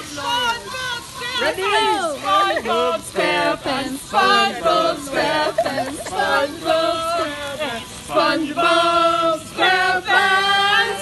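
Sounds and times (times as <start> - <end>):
people singing: 0.0 - 11.0.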